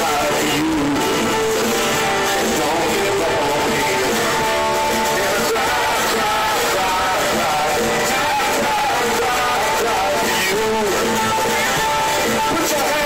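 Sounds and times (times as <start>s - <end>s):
electric guitars: 0.0s - 13.0s
person singing: 0.0s - 13.0s.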